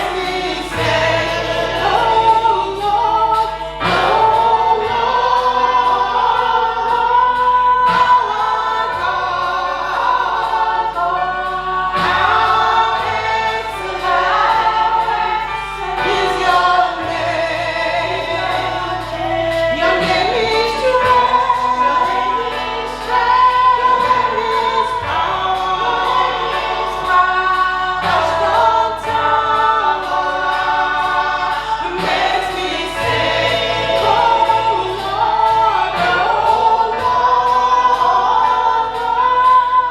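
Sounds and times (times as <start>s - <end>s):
choir singing a gospel song: 0.0s - 39.9s
musical accompaniment: 0.0s - 39.9s.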